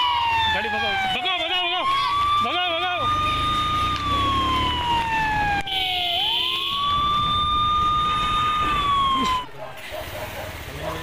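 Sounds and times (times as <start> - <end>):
police siren wailing: 0.0 - 9.6.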